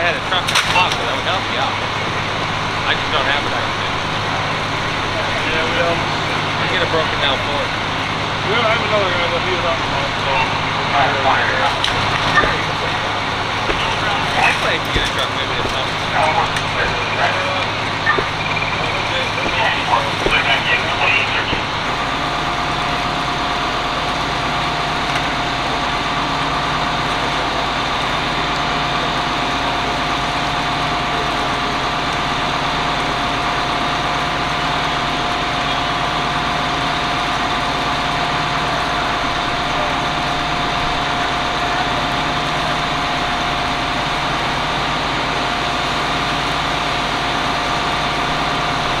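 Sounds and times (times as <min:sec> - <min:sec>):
engine droning with steady whine: 0:00.0 - 0:49.0.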